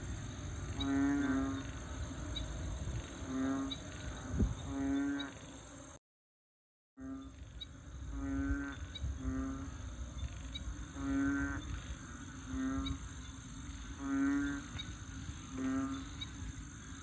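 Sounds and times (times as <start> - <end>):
frogs bellowing calls: 0.0 - 5.7, 7.0 - 17.0.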